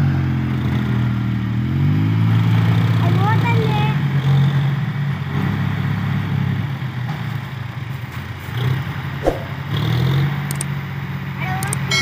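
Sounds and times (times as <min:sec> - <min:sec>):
tractor diesel engine running: 0:02.4 - 0:12.0.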